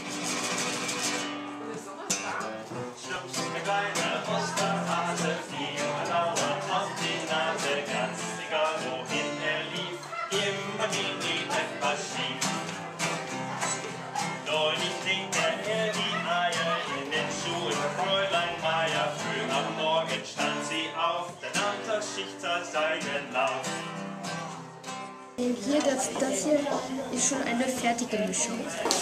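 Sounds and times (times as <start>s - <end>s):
upbeat acoustic guitar music: 0.0s - 29.0s.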